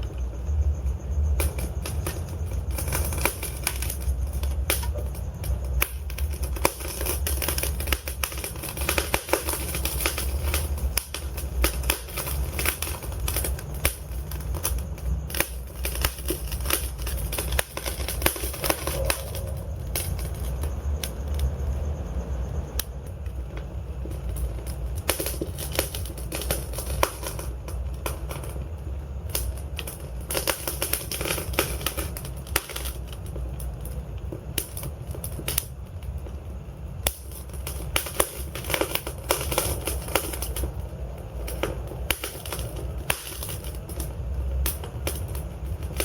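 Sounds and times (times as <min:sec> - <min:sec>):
burning logs popping: 0:00.0 - 0:46.0
fire flames rumbling: 0:00.0 - 0:46.0.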